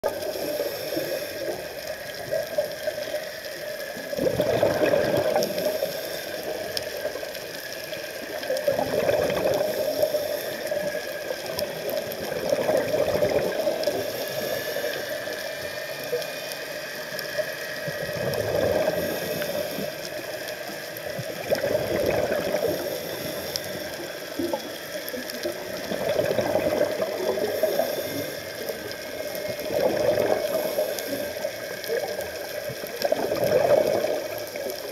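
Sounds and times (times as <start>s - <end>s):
underwater exhaled bubbles: 0.0s - 34.9s
steady hiss: 0.1s - 34.9s.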